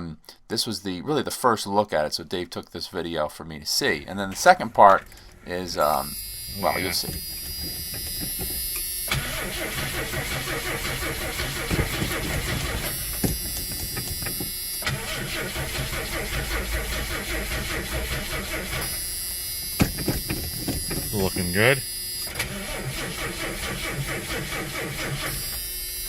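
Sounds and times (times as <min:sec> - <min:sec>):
starter motor cranking engine: 0:04.3 - 0:25.7.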